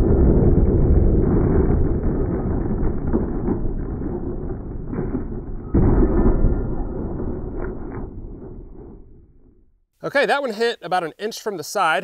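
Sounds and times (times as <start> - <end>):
slowed muffled bullet impact rumble: 0.0 - 9.9.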